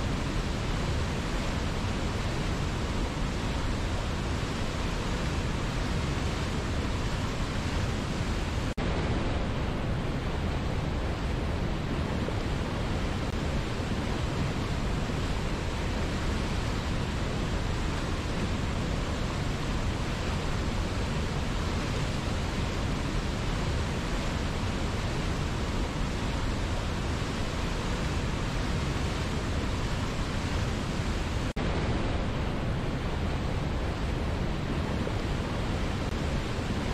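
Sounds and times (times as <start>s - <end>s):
waterfall roaring over rocks: 0.0s - 36.9s.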